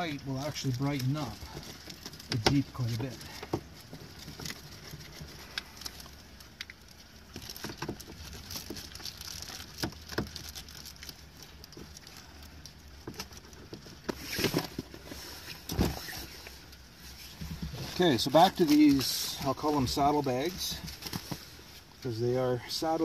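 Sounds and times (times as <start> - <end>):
foil crinkling and clicking: 0.0 - 22.2.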